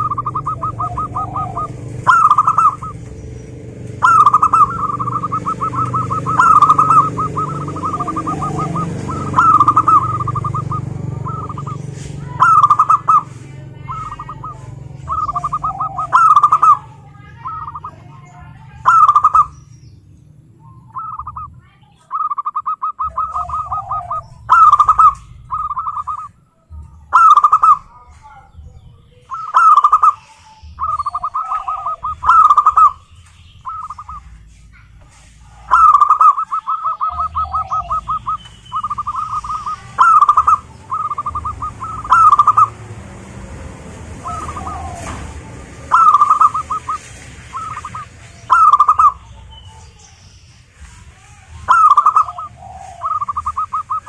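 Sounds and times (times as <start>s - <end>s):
doves cooing: 0.0s - 34.7s, 35.3s - 54.0s.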